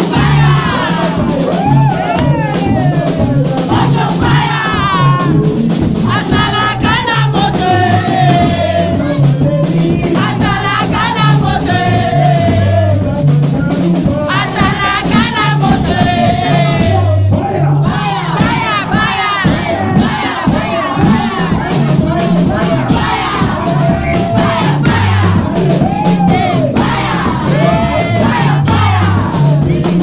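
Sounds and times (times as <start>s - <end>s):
drums: 0.0s - 30.0s
keyboard bass: 0.0s - 30.0s
person singing: 0.0s - 30.0s.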